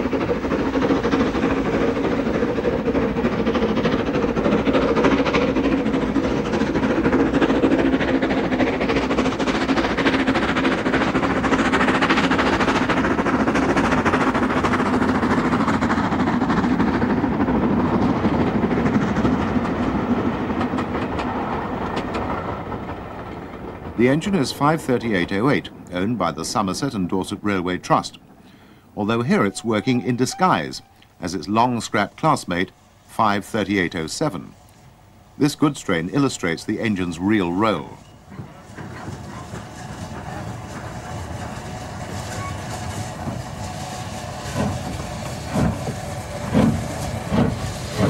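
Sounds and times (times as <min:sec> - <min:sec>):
train wheels clicking over rail joints: 0:00.0 - 0:29.5, 0:33.6 - 0:48.0
steam locomotive chugging: 0:00.0 - 0:48.0.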